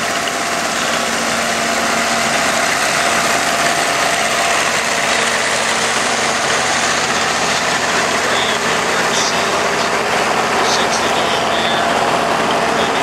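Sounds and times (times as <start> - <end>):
tractor engines idling: 0.0 - 13.0.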